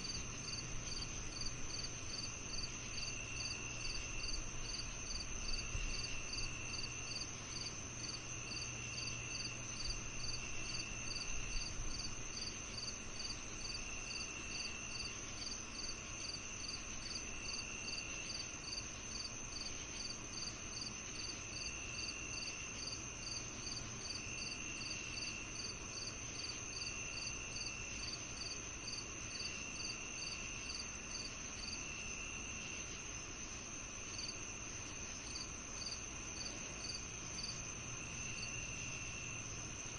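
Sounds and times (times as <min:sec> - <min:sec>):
high-pitched insect trill: 0:00.0 - 0:39.9
lower insect trill: 0:00.0 - 0:39.9
regular insect chirping: 0:00.0 - 0:39.9.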